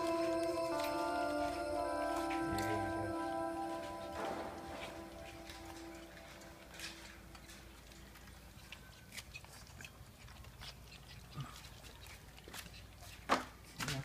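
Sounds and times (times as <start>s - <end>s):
puppies lapping and chewing: 0.0s - 14.0s.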